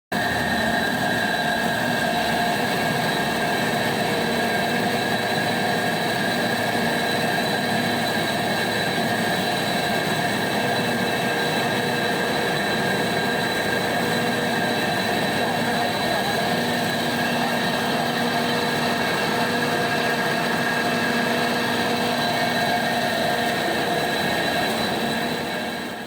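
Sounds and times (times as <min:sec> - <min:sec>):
wood chipper running with high whine: 0:00.1 - 0:26.0.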